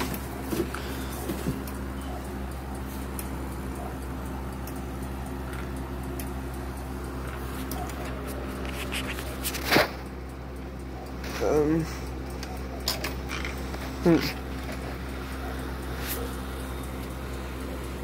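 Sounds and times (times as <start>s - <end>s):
faint clock ticking: 0.0s - 18.0s
steady low hum: 0.0s - 18.0s.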